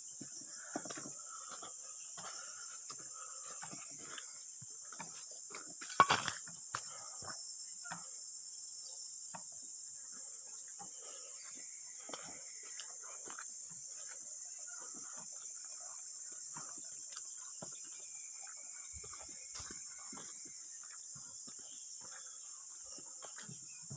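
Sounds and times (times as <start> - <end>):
insects chorus: 0.0 - 23.9.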